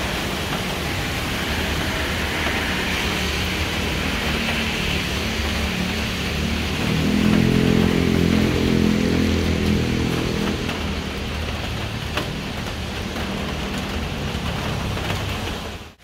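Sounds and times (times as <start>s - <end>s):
rain on a wet road: 0.0s - 16.0s.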